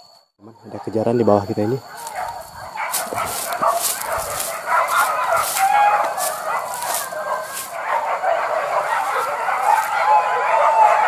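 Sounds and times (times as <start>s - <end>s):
dogs baying and yelping: 1.7s - 11.0s.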